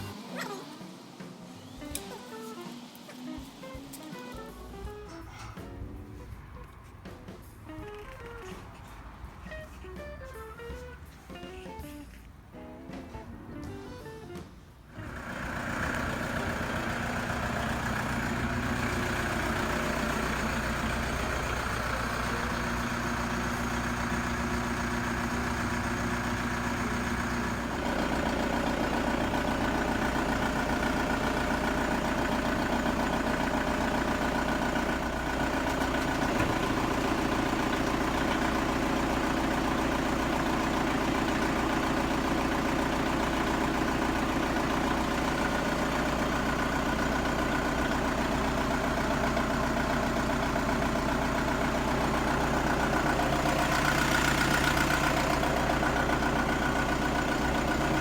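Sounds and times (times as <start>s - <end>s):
van engine humming: 0.0s - 0.7s, 1.6s - 58.0s.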